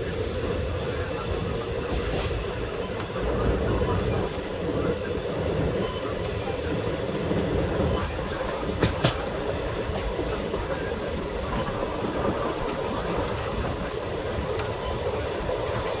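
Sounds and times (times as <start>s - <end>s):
moving train rumble: 0.0s - 16.0s.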